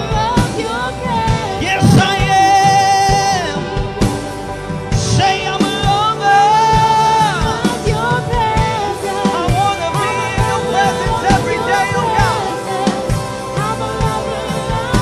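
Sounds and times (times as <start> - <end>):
instrumental accompaniment: 0.0 - 15.0
people singing praise song: 0.0 - 15.0.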